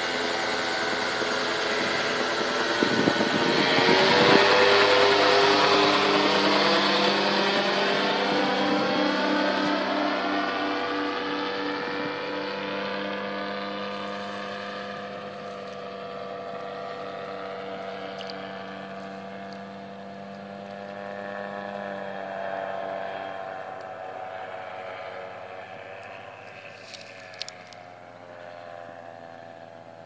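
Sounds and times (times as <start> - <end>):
gyrocopter engine drone: 0.0 - 30.0.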